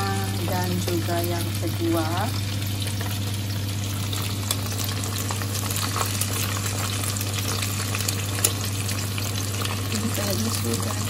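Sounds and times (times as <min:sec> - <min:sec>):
chicken sizzling in hot oil: 0:00.0 - 0:11.0
low hum: 0:00.0 - 0:11.0.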